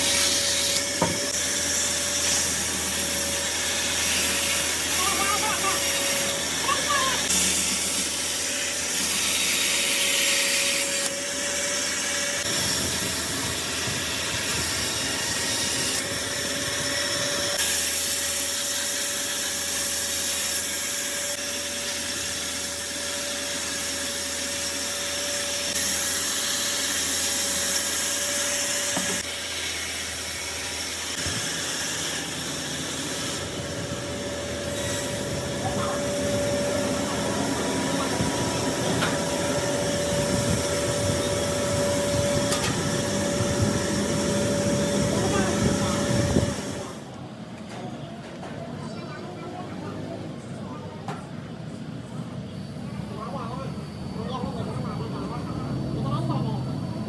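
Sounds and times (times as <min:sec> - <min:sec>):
hissing wood cutting: 0:00.0 - 0:47.2
machine motor whine: 0:00.0 - 0:48.5, 0:51.7 - 0:57.0.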